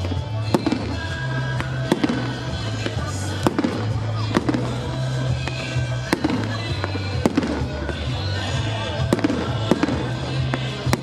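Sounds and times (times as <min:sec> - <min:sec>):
fireworks bangs: 0:00.0 - 0:11.0
music with bass line: 0:00.0 - 0:11.0.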